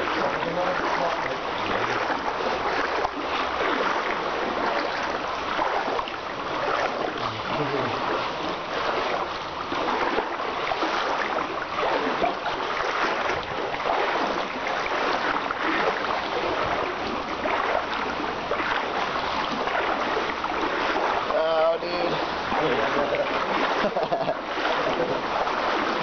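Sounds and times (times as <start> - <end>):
creek water rushing and splashing: 0.0 - 26.0.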